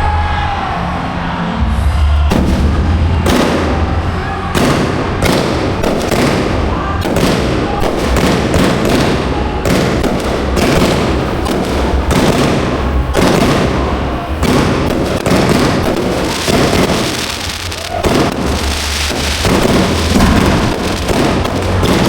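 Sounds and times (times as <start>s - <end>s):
deep rumble: 0.0s - 22.0s
fireworks launching and bursting: 2.3s - 22.0s.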